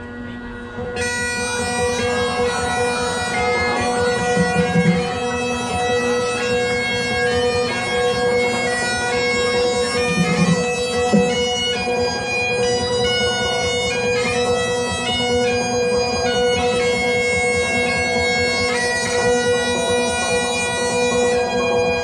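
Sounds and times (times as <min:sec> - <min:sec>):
bagpipes playing a tune: 0:00.0 - 0:22.0.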